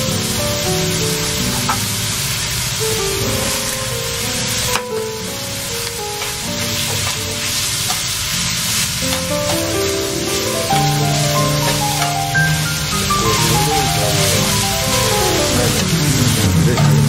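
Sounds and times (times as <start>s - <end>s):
background music of pitched notes: 0.0s - 17.0s
meat sizzling in a frying pan: 0.0s - 17.0s.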